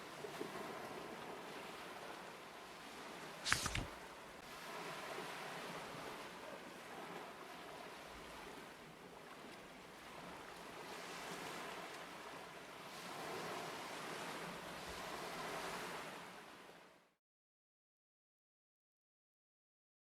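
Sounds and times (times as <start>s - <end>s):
sea waves washing: 0.0s - 16.9s.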